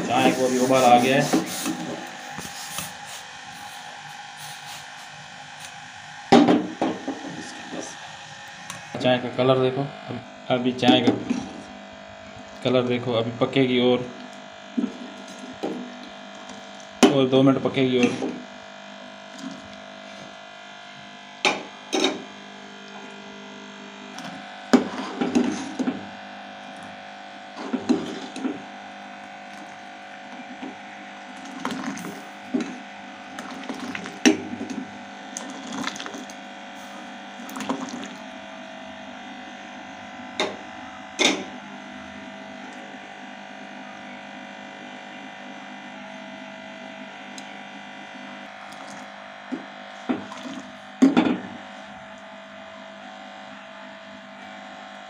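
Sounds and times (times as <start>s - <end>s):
steady background hum: 0.0s - 44.1s.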